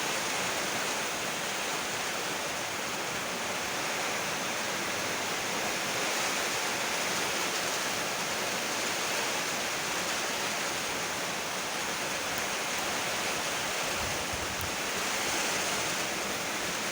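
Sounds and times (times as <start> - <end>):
heavy rainfall: 0.0 - 16.9.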